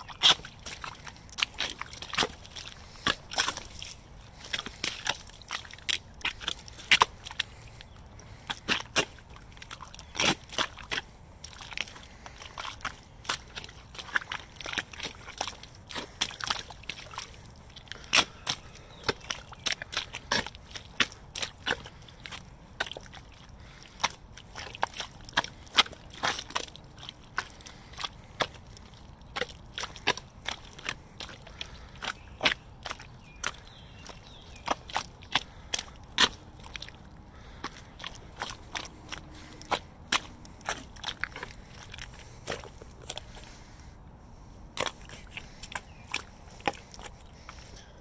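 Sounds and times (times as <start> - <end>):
boots squelching through mud: 0.0 - 48.0.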